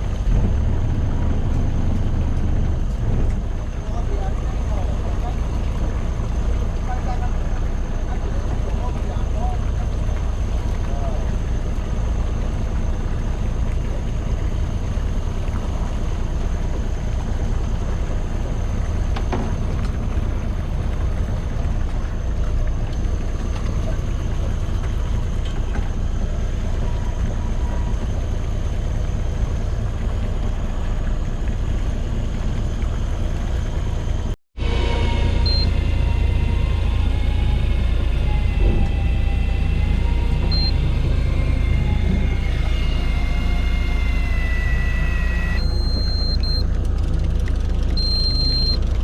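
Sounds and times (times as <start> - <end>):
water against hull: 0.0 - 34.4, 35.4 - 49.0
boat engine rumbling: 0.0 - 49.0.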